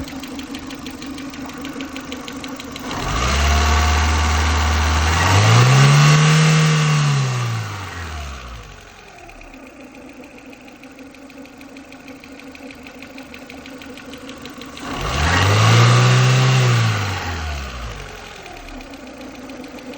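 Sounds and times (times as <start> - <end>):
car engine idling with ticking: 0.0 - 19.9.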